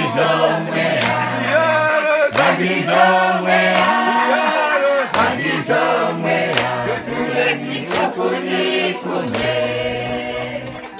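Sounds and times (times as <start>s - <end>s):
group singing a church song: 0.0s - 10.9s.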